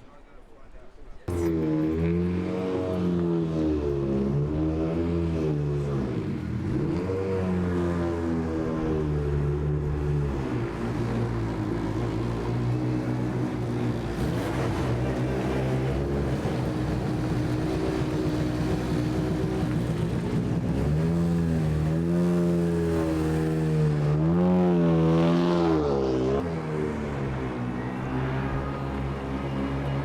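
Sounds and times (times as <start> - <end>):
car engine idling and revving: 1.3 - 30.0.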